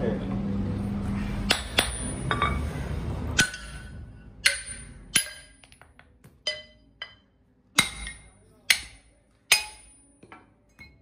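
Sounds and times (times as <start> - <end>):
hammer striking steel on anvil: 1.4 - 2.7, 3.3 - 11.0.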